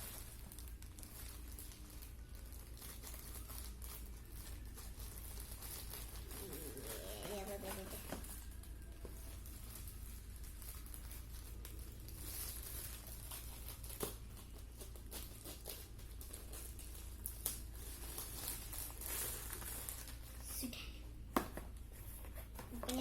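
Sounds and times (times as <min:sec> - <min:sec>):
plastic packaging crinkling and tearing: 0:00.0 - 0:20.7.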